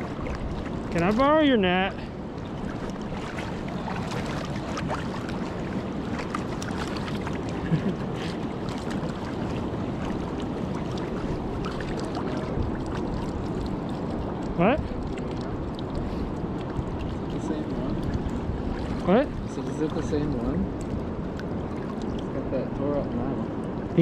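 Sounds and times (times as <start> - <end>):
river water rushing: 0.0 - 22.5
legs wading through water: 0.0 - 24.0.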